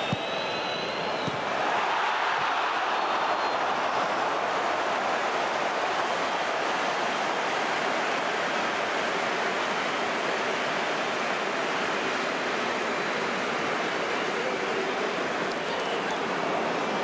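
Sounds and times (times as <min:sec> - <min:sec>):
stadium crowd noise: 0:00.0 - 0:17.0.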